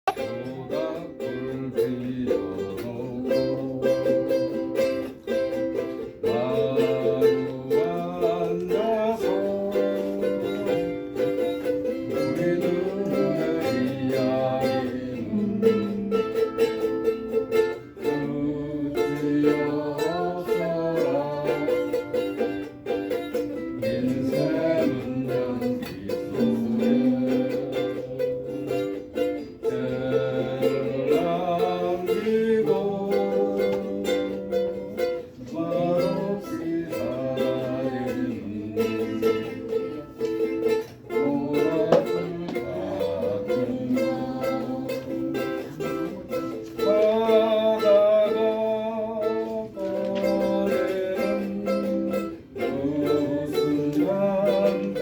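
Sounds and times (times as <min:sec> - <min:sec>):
ukulele playing a tune: 0:00.0 - 0:55.0.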